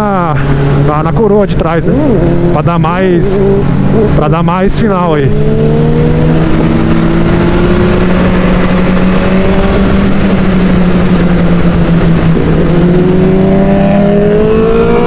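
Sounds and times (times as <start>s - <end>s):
motorcycle engine accelerating: 0.0s - 15.0s
wind rush on microphone: 1.5s - 15.0s.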